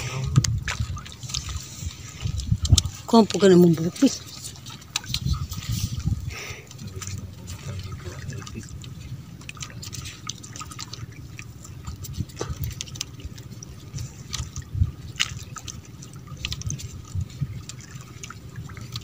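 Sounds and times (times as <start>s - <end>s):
steady low rumble: 0.0s - 19.0s
water splashing and dripping: 0.0s - 19.0s.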